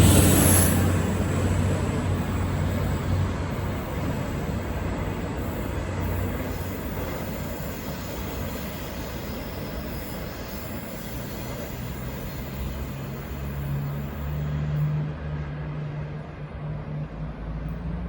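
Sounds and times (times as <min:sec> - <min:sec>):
diesel train engine hum: 0:00.0 - 0:18.0
rail rumble: 0:00.0 - 0:18.0.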